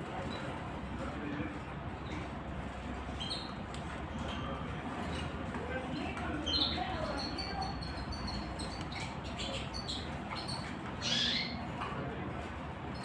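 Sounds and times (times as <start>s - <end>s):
songbirds chirping: 0.2s - 13.0s.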